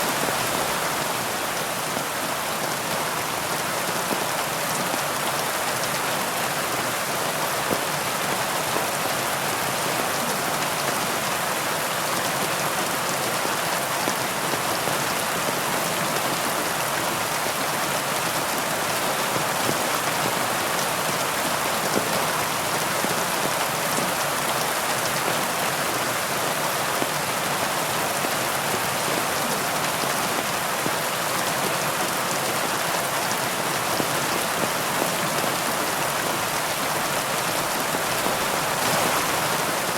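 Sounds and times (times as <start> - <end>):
heavy rain falling: 0.0 - 39.9
rain patter on leaves: 0.0 - 39.9.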